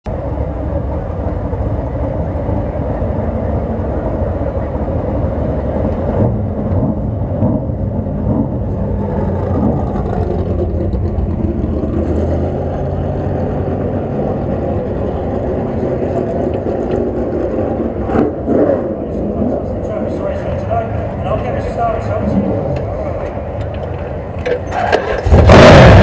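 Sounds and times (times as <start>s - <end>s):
race car engine running: 0.1s - 26.0s.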